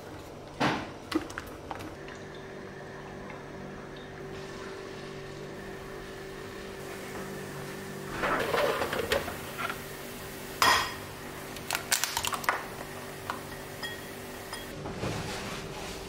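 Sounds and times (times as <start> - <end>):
faint steady hum: 0.0 - 14.7.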